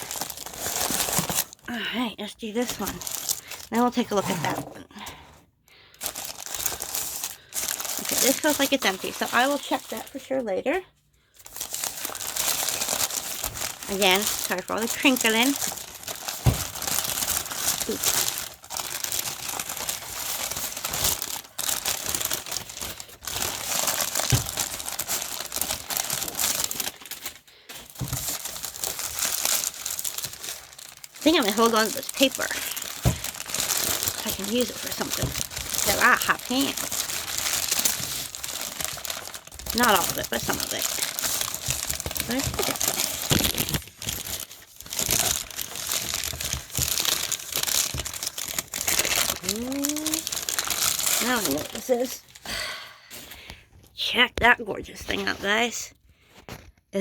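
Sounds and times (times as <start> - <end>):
paper crinkling and rustling: 0.0 - 1.7, 2.5 - 4.7, 5.9 - 10.5, 11.3 - 52.4.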